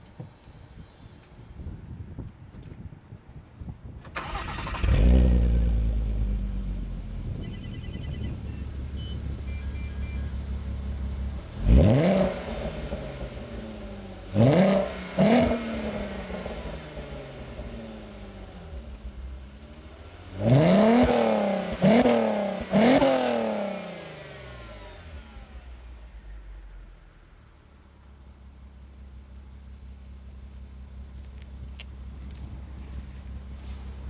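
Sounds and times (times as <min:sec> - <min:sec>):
car engine idling and revving: 0:04.2 - 0:34.0.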